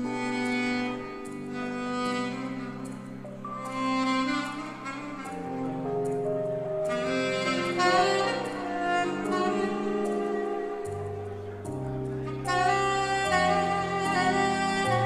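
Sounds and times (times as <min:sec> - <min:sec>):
saxophone melody: 0:00.0 - 0:15.0
strings and bass backing: 0:00.0 - 0:15.0.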